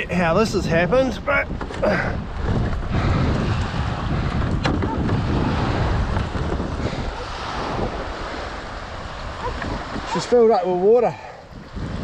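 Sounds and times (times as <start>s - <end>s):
wind buffeting microphone: 0.0s - 12.0s
water lapping and sloshing: 1.6s - 12.0s.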